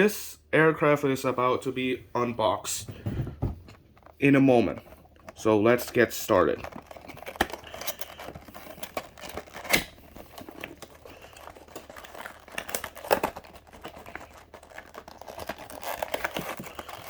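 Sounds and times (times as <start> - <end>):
packaging being handled: 3.0 - 17.0.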